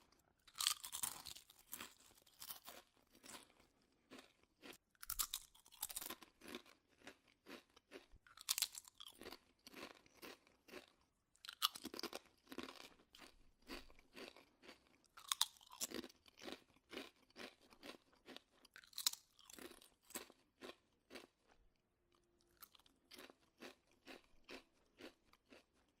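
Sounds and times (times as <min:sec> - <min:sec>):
potato chips crunching: 0:00.5 - 0:21.6, 0:22.5 - 0:25.9.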